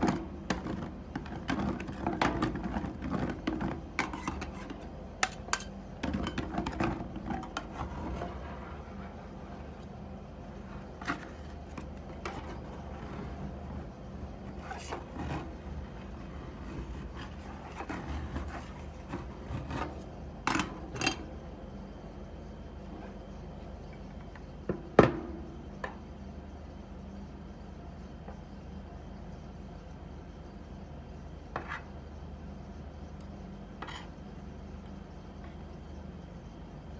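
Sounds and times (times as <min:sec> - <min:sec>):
faint low hum: 0:00.0 - 0:36.9.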